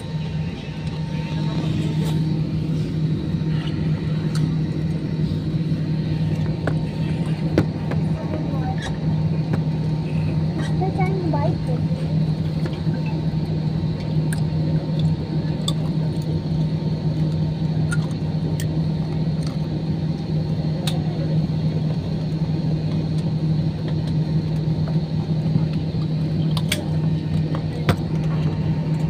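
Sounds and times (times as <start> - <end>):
aircraft cabin drone: 0.0 - 29.0.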